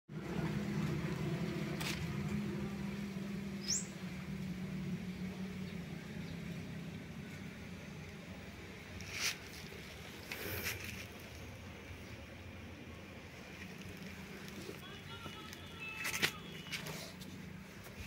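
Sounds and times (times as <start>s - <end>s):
low mechanical hum: 0.1s - 18.0s.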